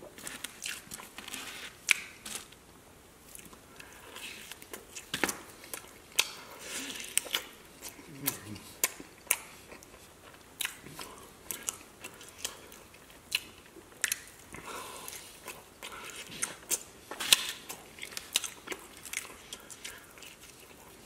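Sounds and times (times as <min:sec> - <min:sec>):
chewing chicken wings: 0:03.3 - 0:21.0.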